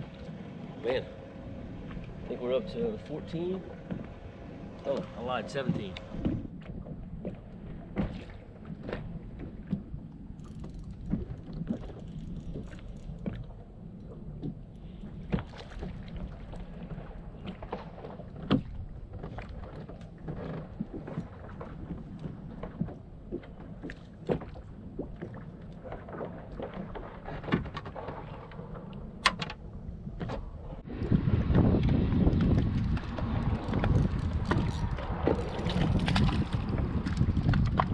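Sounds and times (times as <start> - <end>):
waves lapping against boat hull: 0.0 - 37.9
knocks and clicks on boat: 2.8 - 37.9.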